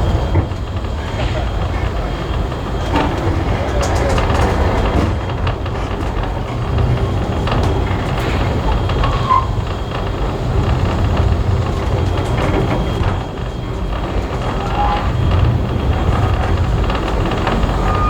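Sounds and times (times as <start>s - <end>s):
railway carriage rumbling on rails: 0.0s - 18.0s
clicks and rattles: 0.3s - 18.0s.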